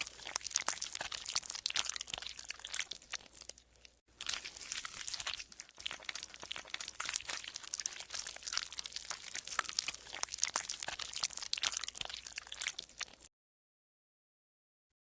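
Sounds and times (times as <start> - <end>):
slime crackling and squelching: 0.0 - 13.3.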